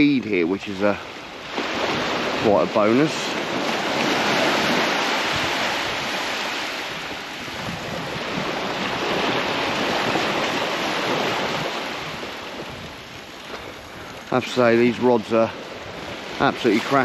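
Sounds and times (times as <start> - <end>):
small waves breaking on shore: 0.0 - 17.0
wind on microphone: 1.4 - 17.0.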